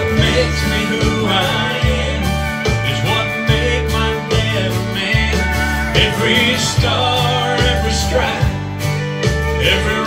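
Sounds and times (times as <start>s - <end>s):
country music with acoustic guitar: 0.0s - 10.0s.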